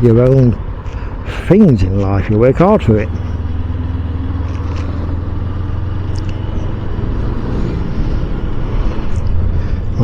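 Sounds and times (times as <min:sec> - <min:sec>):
motorcycle engine humming: 0:00.0 - 0:10.0
road noise: 0:00.0 - 0:10.0.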